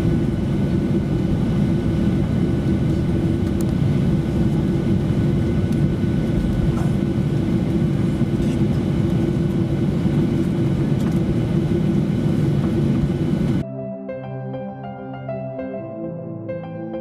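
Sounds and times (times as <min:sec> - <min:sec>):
jet engine cabin rumble: 0:00.0 - 0:13.6.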